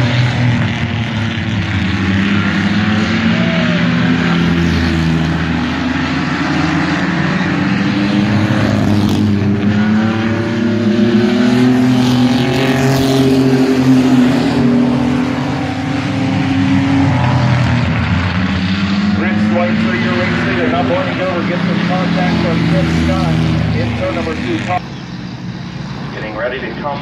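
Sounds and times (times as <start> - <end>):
racing mini truck engines: 0.0 - 27.0.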